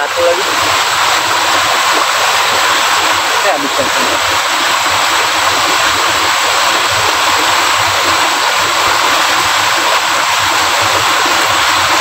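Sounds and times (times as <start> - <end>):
fast-flowing stream rushing: 0.0 - 12.0.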